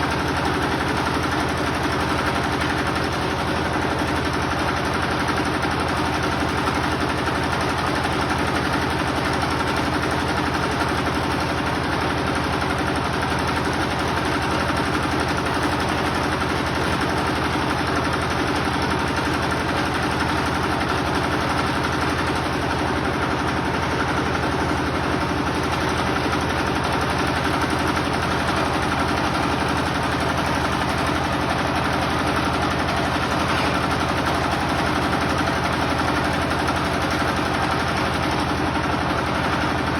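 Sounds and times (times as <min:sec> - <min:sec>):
generator engine droning: 0:00.0 - 0:39.9.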